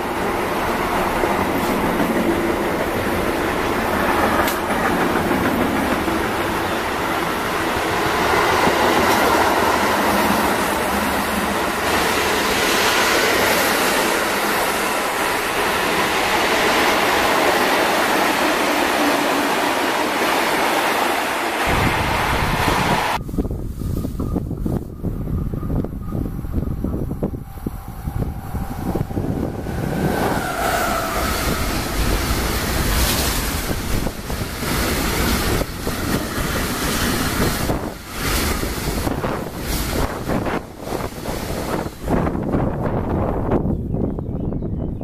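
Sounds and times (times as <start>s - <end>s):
train wheels rolling on rails: 0.0s - 43.6s.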